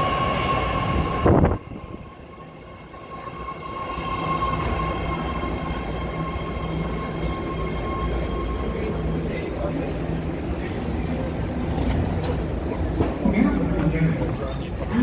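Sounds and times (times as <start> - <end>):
train high-pitched whine: 0.0 - 13.2
low train rumble: 0.0 - 15.0.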